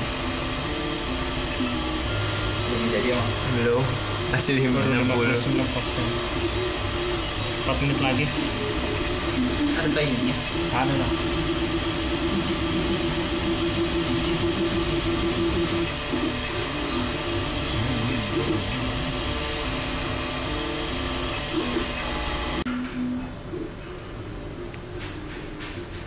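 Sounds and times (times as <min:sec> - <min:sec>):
printer stepper motors whining: 0:00.0 - 0:26.0.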